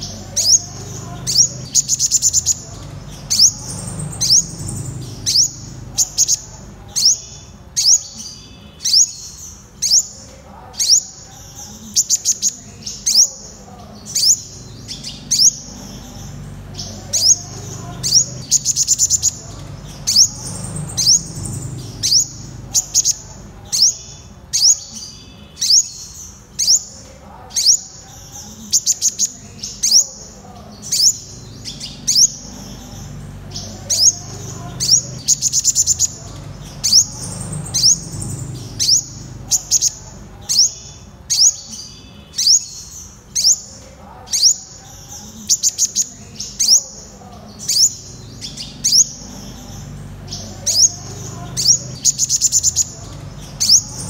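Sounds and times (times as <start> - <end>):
bird rapid trill: 0.0 - 27.0, 27.6 - 54.0.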